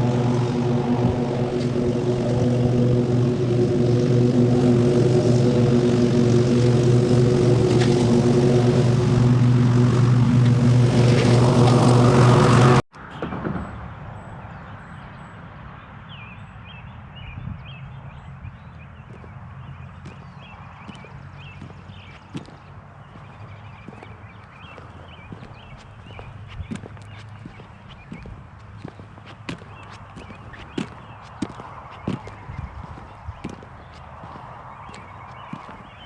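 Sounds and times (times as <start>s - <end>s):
engine running: 0.0s - 13.3s, 19.0s - 36.0s.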